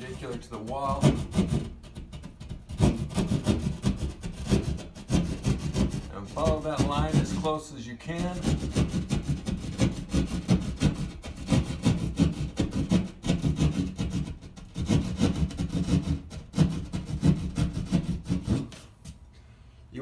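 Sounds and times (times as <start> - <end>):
hand saw cutting drywall: 0.0 - 19.2.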